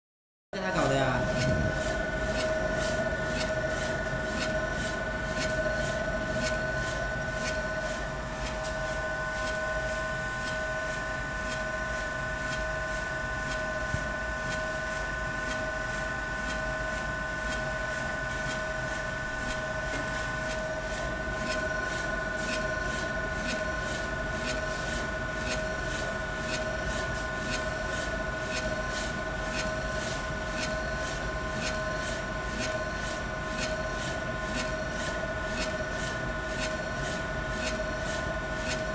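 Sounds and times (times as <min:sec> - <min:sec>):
printer motor whine and hum: 0:00.6 - 0:38.9.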